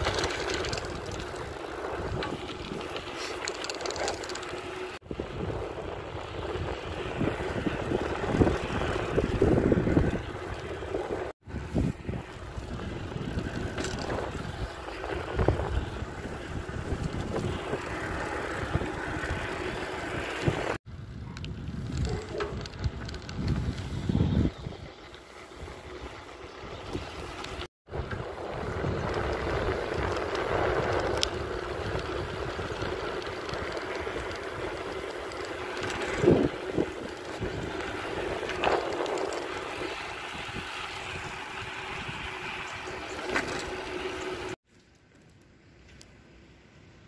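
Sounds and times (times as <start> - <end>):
wind buffeting microphone: 0.0 - 4.1, 5.0 - 44.6
bicycle rumbling and rattling: 0.0 - 47.0.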